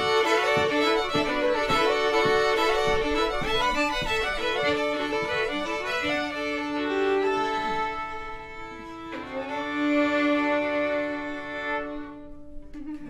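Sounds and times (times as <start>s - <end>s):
fiddles playing in harmony: 0.0s - 13.0s.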